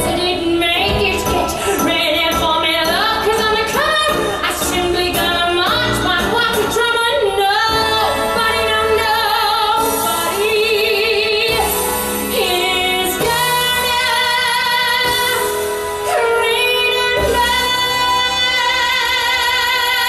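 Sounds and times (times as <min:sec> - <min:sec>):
woman singing show tune: 0:00.0 - 0:20.0.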